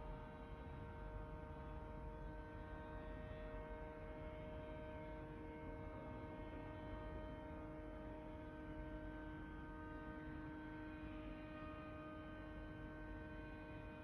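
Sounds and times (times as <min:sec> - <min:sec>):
constant droning hum: 0:00.0 - 0:14.0.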